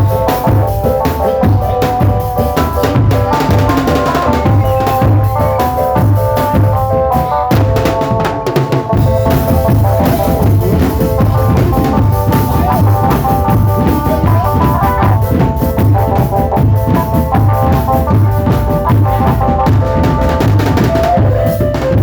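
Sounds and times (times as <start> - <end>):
drums steady beat: 0.0 - 22.0
melody of held notes: 0.0 - 22.0.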